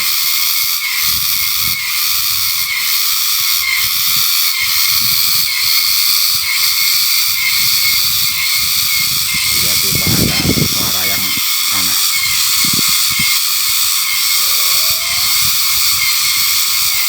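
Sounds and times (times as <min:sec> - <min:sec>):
shrill pulsing high-pitched drone: 0:00.1 - 0:17.0.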